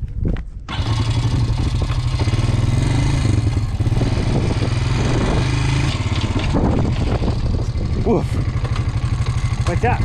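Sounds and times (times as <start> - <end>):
vehicle engine running: 0.7 - 10.0.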